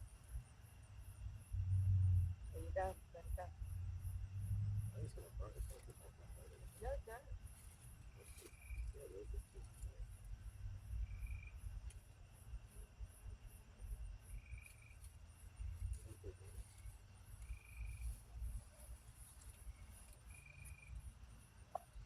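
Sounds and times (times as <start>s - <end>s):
wind rumble on microphone: 0.0s - 20.4s
cricket trill: 0.0s - 22.0s
crickets chirping: 0.0s - 22.0s.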